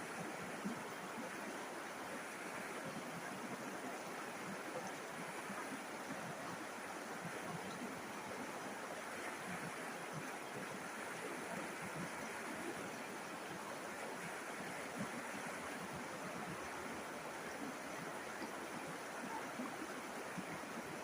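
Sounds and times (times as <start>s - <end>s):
river water babbling over stones: 0.0s - 21.0s.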